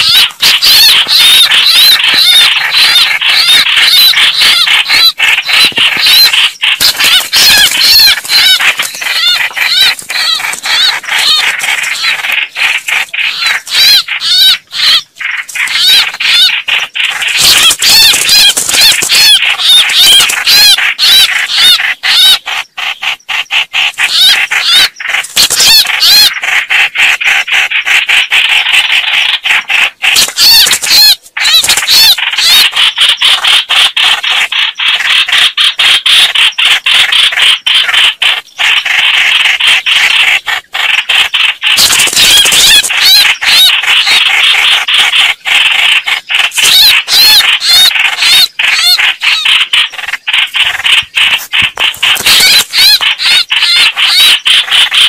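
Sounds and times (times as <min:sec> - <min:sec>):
birds chattering harshly: 0:00.0 - 0:55.0.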